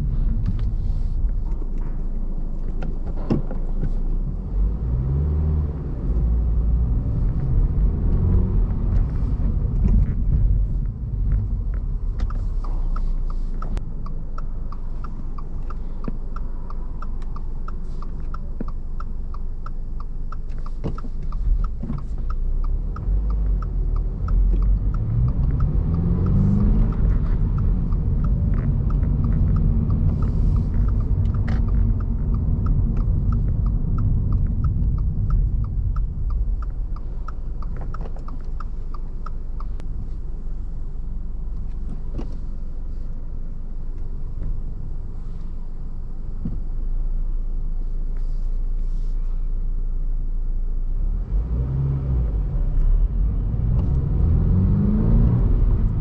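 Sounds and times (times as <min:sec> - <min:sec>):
turn signal ticking: 0:00.0 - 0:48.8, 0:49.6 - 0:56.0
car engine revving and idling: 0:00.0 - 0:56.0.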